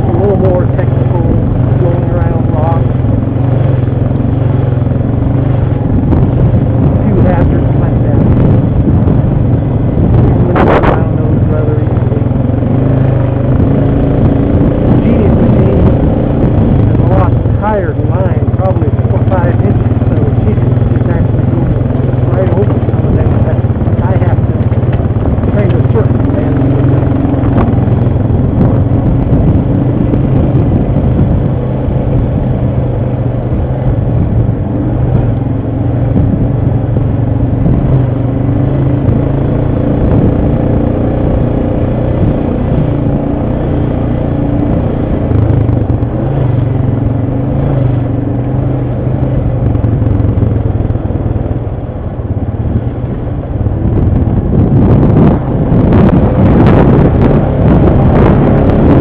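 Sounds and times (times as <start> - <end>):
engine running: 0.0 - 59.0
trail clatter: 0.0 - 59.0.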